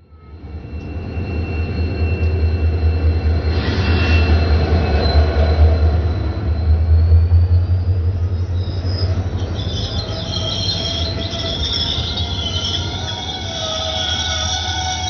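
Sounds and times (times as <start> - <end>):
train rumbling by: 0.0 - 15.0
steel wheel squeal: 0.3 - 15.0.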